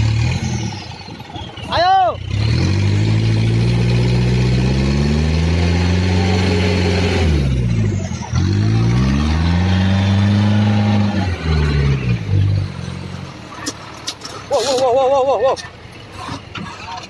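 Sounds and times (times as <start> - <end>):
truck engine revving hard: 0.0 - 14.8.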